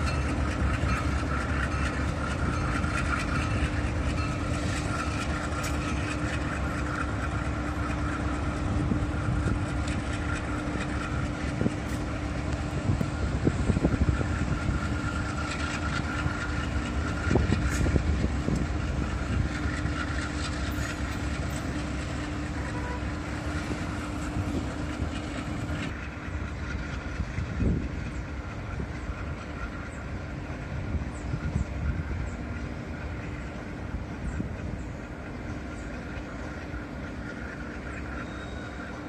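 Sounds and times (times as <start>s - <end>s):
diesel locomotive engine drone: 0.0s - 39.0s
heavy train knocks: 0.0s - 39.0s
wheels rumbling on rail: 0.0s - 39.0s.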